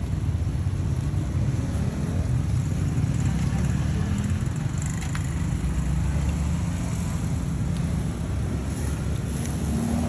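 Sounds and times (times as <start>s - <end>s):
street noise rumble: 0.0s - 10.0s.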